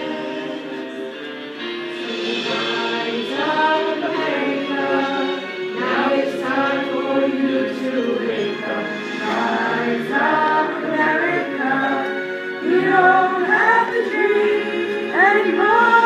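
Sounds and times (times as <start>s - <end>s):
group singing a cappella: 0.0s - 1.1s, 1.9s - 16.0s.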